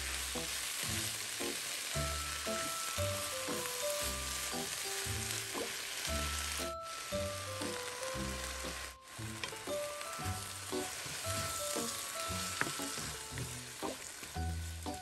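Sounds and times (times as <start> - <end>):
cabbage sizzling in a hot pan: 0.0 - 15.0
light background music: 0.0 - 15.0
wooden spatula stirring: 0.0 - 15.0.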